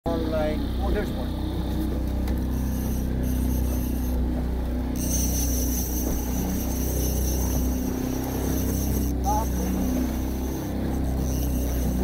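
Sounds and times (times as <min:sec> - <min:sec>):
boat motor droning: 0:00.1 - 0:12.0
thin high whine: 0:00.1 - 0:12.0
wind: 0:00.1 - 0:12.0
choppy water: 0:00.4 - 0:12.0.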